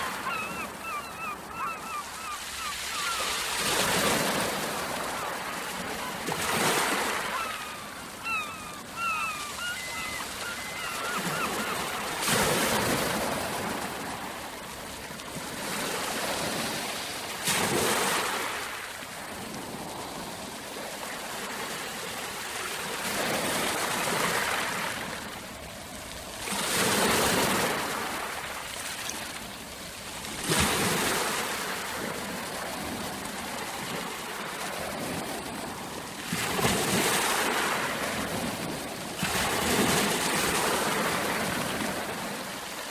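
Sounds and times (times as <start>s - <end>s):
ocean waves washing in: 0.0s - 42.9s.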